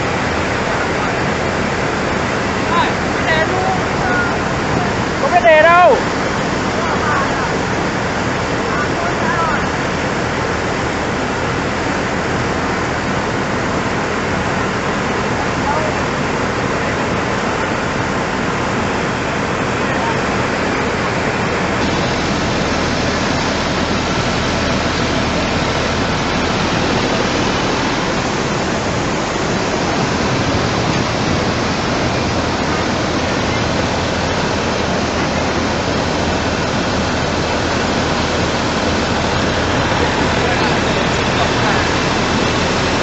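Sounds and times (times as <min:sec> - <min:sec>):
rushing floodwater: 0:00.0 - 0:43.0.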